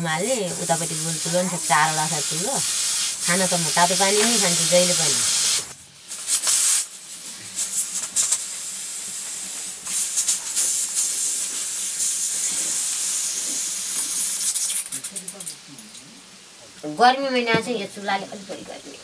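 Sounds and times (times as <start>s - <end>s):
steam hissing from pots: 0.0s - 15.7s.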